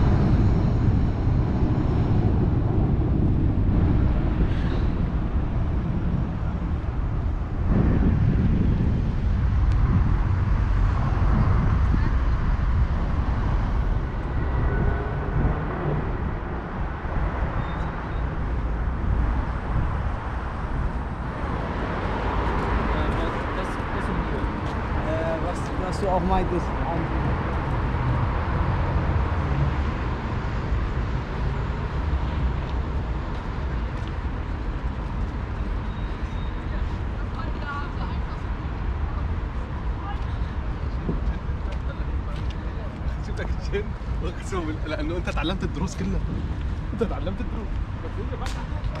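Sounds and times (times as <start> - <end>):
traffic rumble: 0.0 - 49.0
faint voices of passers-by: 2.2 - 49.0.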